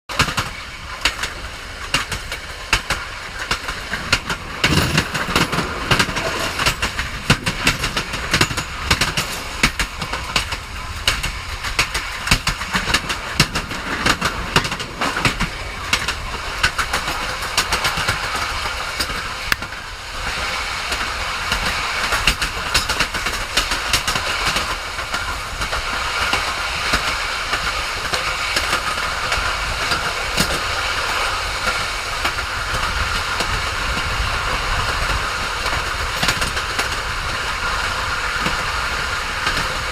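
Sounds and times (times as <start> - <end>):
train wheels clacking on rails: 0.1 - 39.9.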